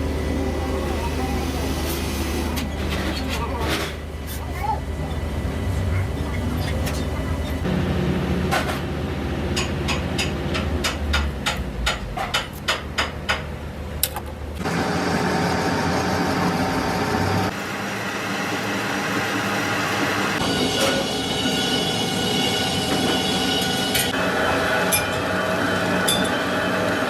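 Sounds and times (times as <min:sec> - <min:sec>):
metalworking machine running: 0:00.0 - 0:10.7, 0:14.6 - 0:27.0.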